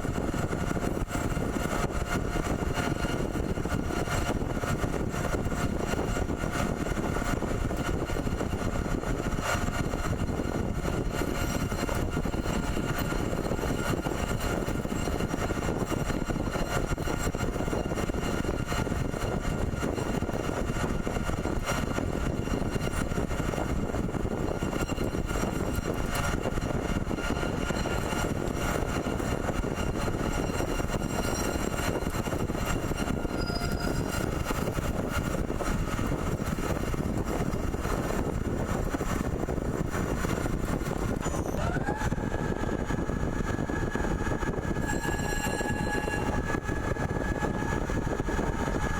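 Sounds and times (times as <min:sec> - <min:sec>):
pipe threading machine running: 0:00.0 - 0:48.9.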